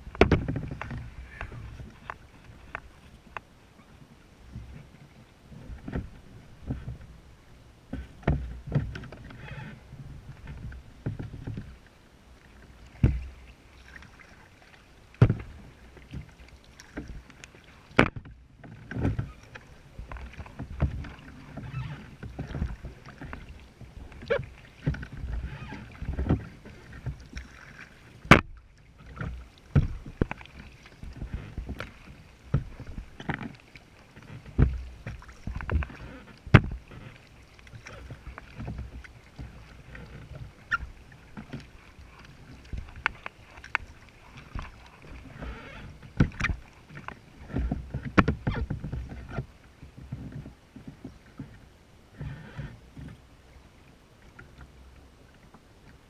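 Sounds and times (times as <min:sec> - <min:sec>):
paddle strokes splashing: 0:00.0 - 0:56.0
water lapping at hull: 0:00.0 - 0:56.0.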